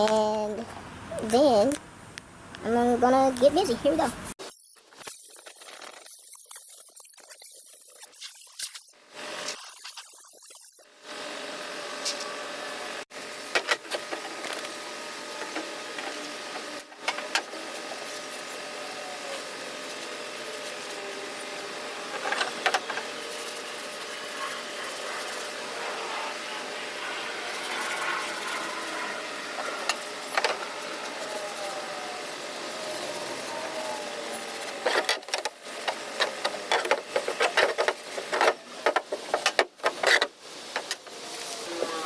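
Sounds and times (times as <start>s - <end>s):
steady mechanical hum: 0.0s - 42.0s.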